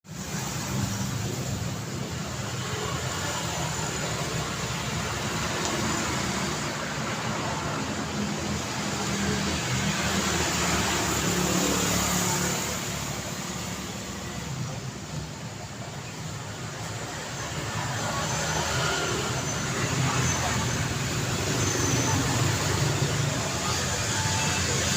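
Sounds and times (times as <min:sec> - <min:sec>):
road vehicles passing: 0:00.1 - 0:24.9.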